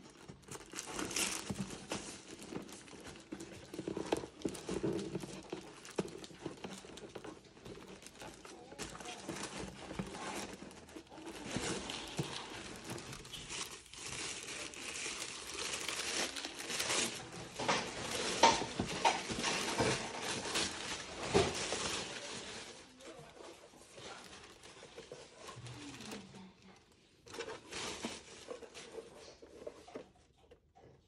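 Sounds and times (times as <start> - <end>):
tissue paper crinkling: 0.0 - 30.3.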